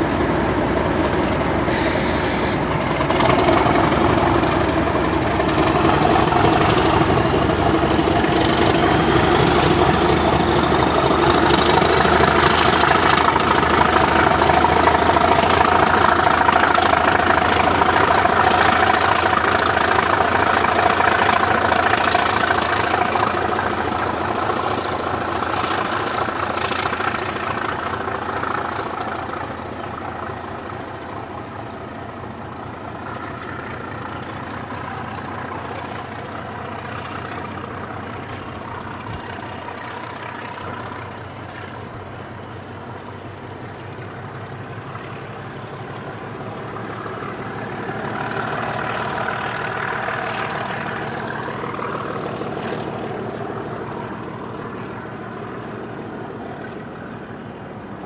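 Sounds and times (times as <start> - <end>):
diesel locomotive engine working: 0.0 - 58.0.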